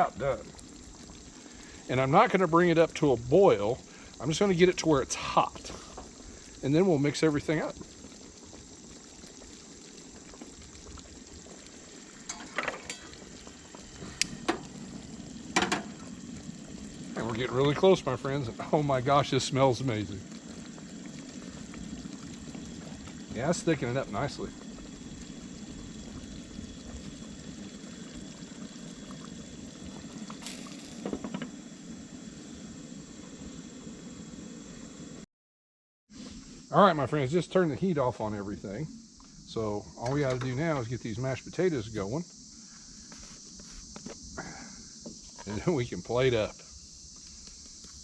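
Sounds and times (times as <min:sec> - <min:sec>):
gravy bubbling in a pan: 0:00.0 - 0:35.2, 0:36.1 - 0:48.0.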